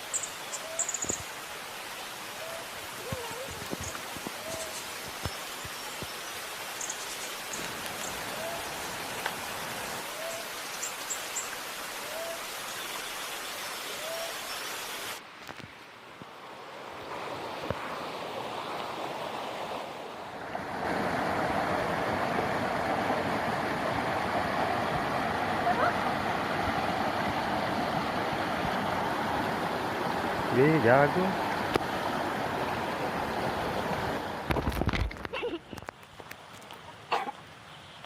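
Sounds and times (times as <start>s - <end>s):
water rushing: 0.0s - 37.6s.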